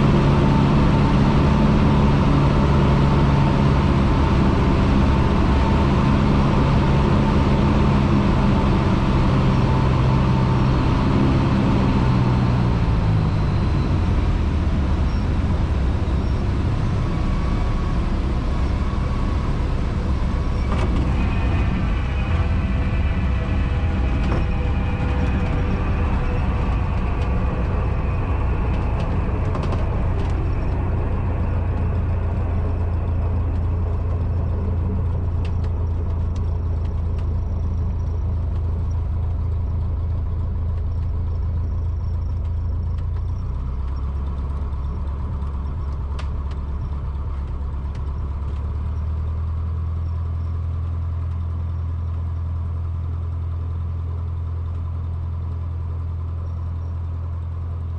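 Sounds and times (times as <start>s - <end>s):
airplane engine drone in cabin: 0.0s - 57.9s.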